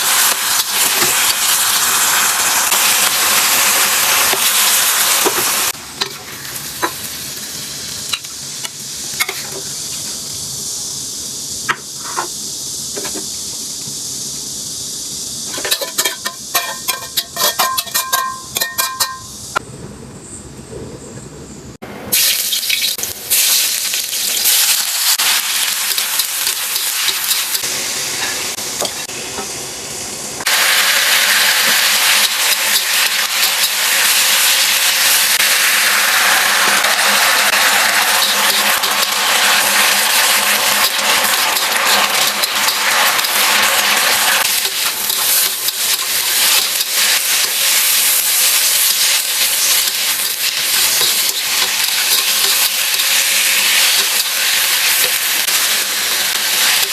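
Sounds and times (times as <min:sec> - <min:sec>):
food sizzling in hot oil: 0:00.0 - 0:19.6, 0:22.1 - 0:56.9.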